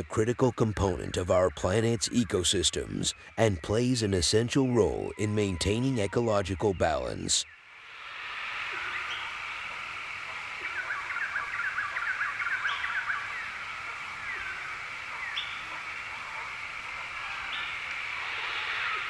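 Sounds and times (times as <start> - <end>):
birds chirping: 0.0 - 7.8, 8.4 - 19.0
steady background hiss: 0.0 - 19.0.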